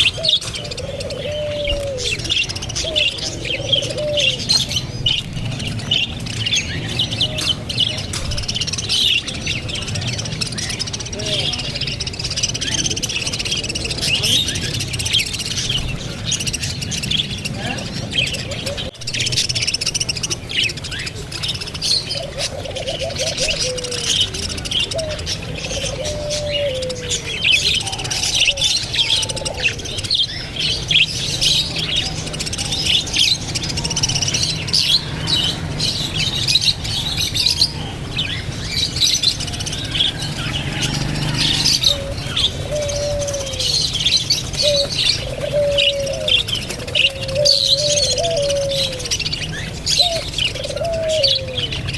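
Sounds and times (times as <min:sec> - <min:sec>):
parrots chirping: 0:00.0 - 0:51.9.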